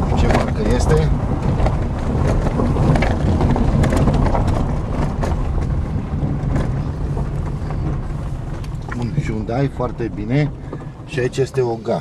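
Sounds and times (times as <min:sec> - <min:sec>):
car engine and road rumble: 0:00.0 - 0:12.0
stones crunching under tyres: 0:00.0 - 0:12.0.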